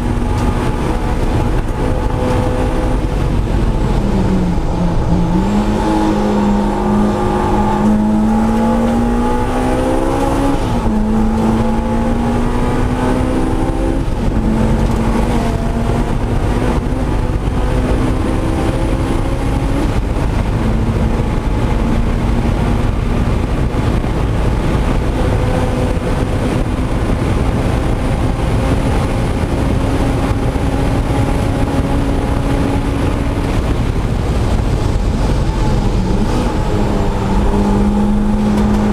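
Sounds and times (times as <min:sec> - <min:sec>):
car engine running hard: 0:00.0 - 0:38.9
road and wind noise: 0:00.0 - 0:38.9.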